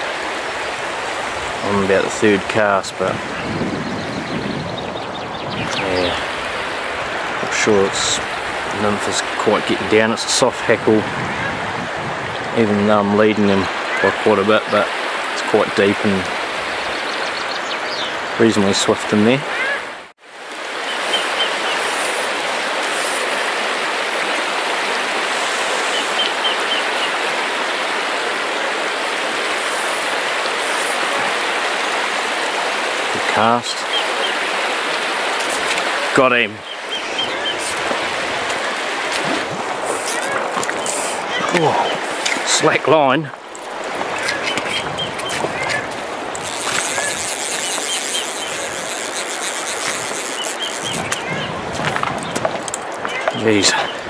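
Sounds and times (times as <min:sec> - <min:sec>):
stream rushing over stones: 0:00.0 - 0:04.4, 0:05.6 - 0:54.0.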